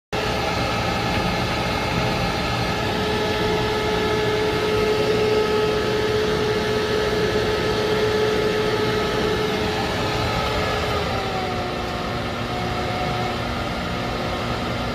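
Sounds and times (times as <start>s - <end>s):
electric motor whining: 0.2s - 14.9s.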